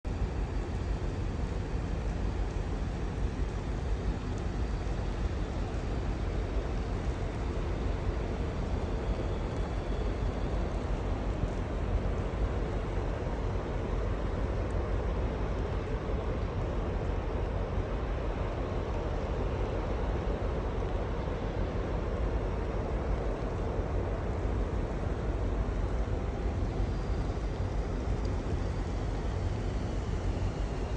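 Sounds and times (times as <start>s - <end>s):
faint continuous hum: 0.0s - 30.9s
low rumble and hiss: 0.0s - 30.9s.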